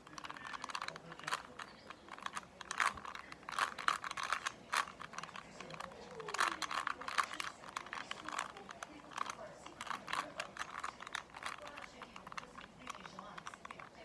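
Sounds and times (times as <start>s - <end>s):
puzzle cube plastic clicks: 0.0s - 14.0s.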